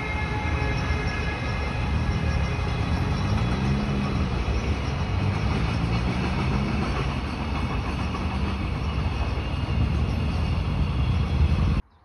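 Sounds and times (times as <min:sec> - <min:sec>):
train rumbling: 0:00.0 - 0:11.9.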